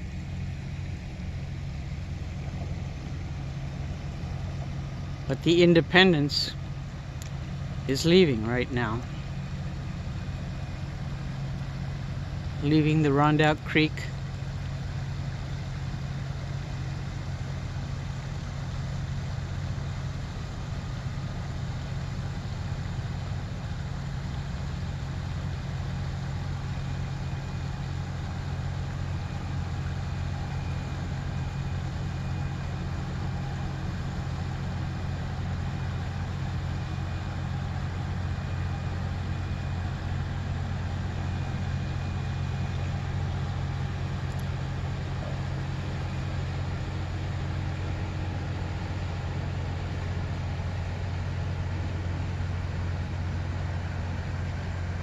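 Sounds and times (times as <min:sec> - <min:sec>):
ship engines droning: 0:00.0 - 0:55.0.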